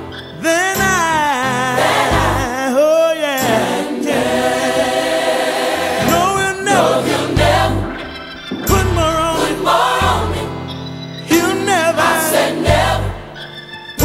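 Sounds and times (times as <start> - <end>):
gospel singing with accompaniment: 0.4 - 14.0.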